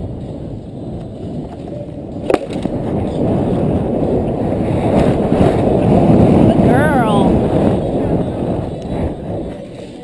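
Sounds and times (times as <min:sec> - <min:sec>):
rumbling buffeting movement noise: 0:00.0 - 0:10.0.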